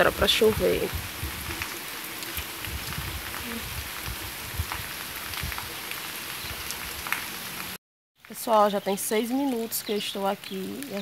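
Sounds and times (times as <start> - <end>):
rain on wet pavement: 0.0 - 11.0.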